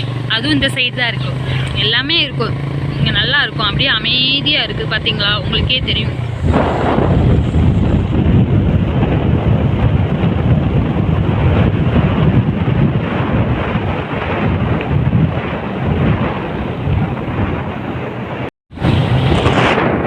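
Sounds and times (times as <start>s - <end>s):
motorcycle running noise: 0.0s - 20.0s
wind buffeting microphone: 0.0s - 20.0s.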